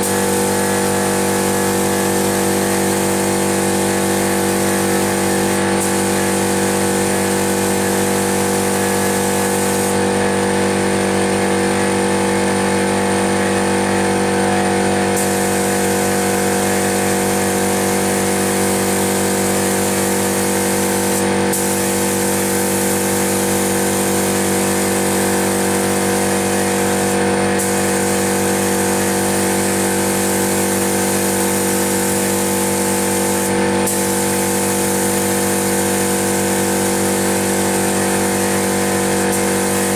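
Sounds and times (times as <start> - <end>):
paint spray gun hissing: 0.0 - 10.4, 14.8 - 39.9
air compressor humming: 0.0 - 39.9.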